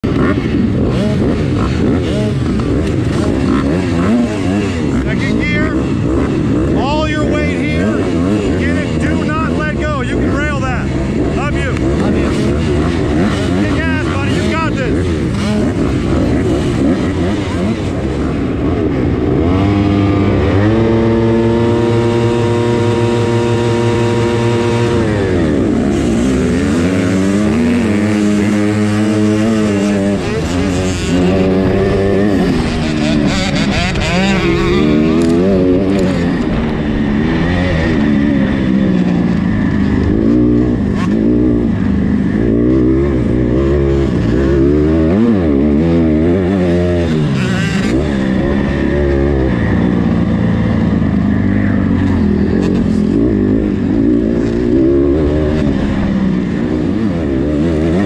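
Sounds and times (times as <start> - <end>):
motocross bike engine revving: 0.0 - 58.0
other bikes: 0.0 - 58.0.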